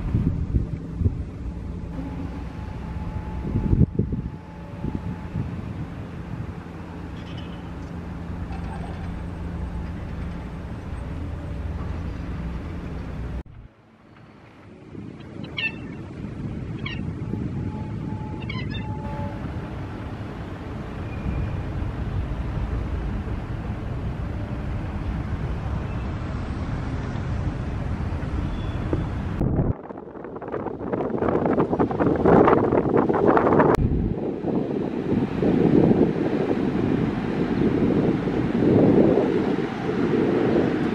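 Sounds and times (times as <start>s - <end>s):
wind buffeting microphone: 0.0s - 13.7s, 14.4s - 40.9s
bus diesel engine rumbling: 0.0s - 40.9s.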